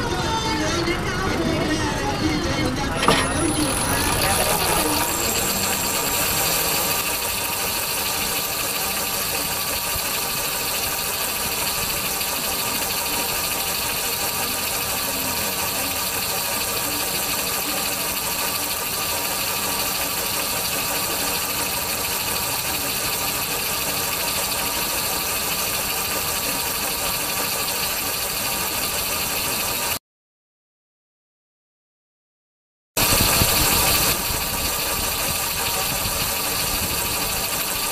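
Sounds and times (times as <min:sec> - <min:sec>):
buggy engine running: 0:00.0 - 0:30.0, 0:33.0 - 0:37.9.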